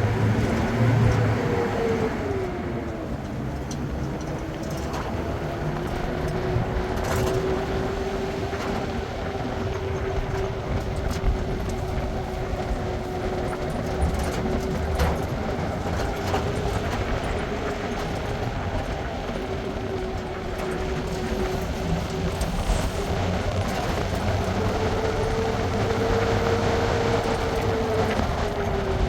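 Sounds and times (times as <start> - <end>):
moving vehicle rumble: 0.0 - 29.0.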